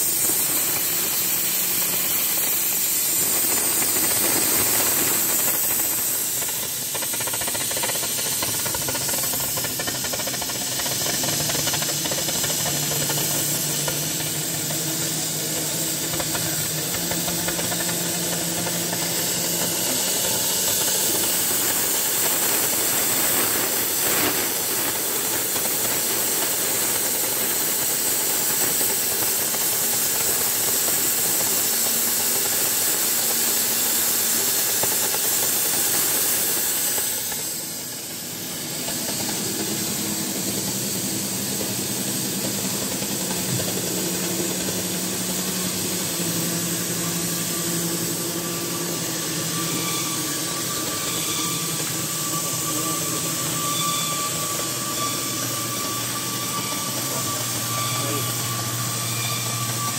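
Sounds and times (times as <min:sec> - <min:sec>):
cutting torch hissing: 0:00.0 - 0:59.9.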